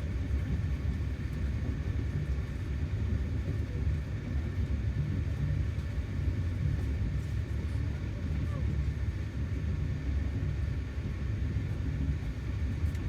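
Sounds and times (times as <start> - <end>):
train rumbling inside carriage: 0.0 - 13.0.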